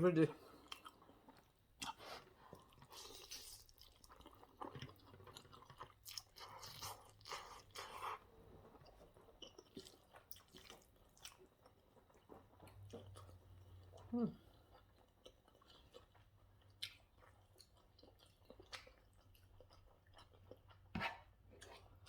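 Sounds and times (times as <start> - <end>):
person chewing food: 0.4 - 22.0.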